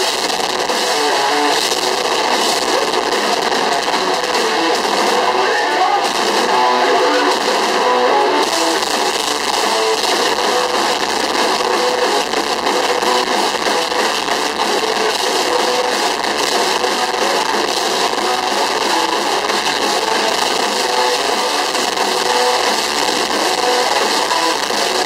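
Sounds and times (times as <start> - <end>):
distorted electric guitars: 0.0 - 25.0
driving drums: 0.0 - 25.0.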